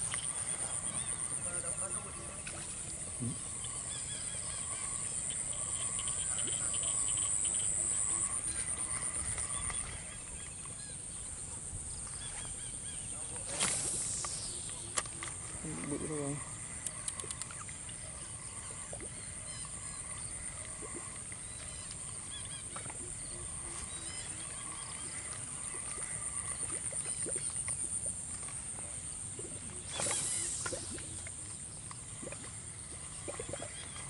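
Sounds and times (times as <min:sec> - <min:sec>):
birds chirping: 0:00.0 - 0:28.1
insect drone: 0:00.0 - 0:34.0.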